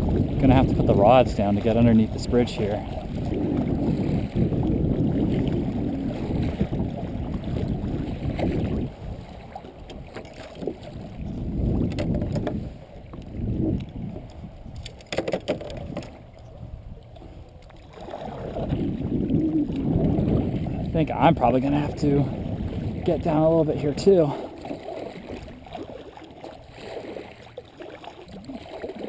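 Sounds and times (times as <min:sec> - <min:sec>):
wind buffeting microphone: 0:00.0 - 0:27.4
water lapping around kayak: 0:00.0 - 0:29.0.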